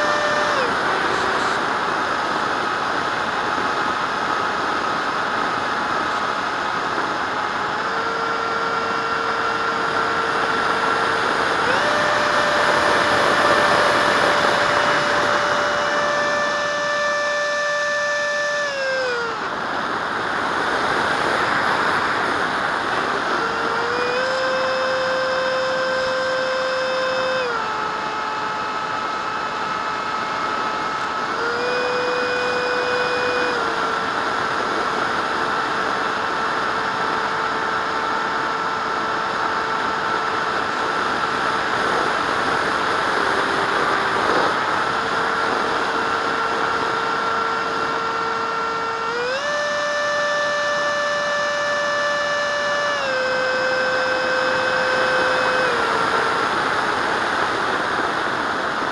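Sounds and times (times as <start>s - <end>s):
electric ducted fan whining: 0.0s - 58.9s.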